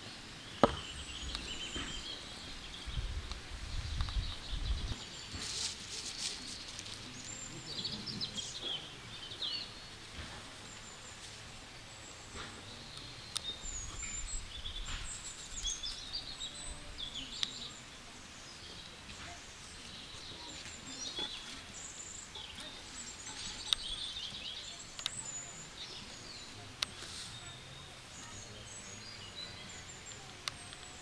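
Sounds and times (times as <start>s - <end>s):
small birds chirping: 0.0s - 31.0s
steady background hiss: 0.0s - 31.0s.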